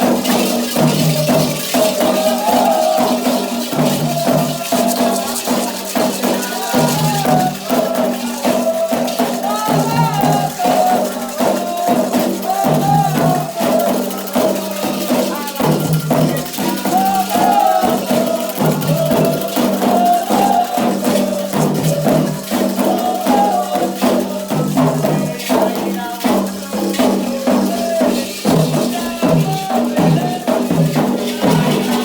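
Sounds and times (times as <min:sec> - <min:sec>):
hand percussion: 0:00.0 - 0:32.0
shaken rattle: 0:00.0 - 0:32.0
voices singing a chant: 0:00.0 - 0:32.0.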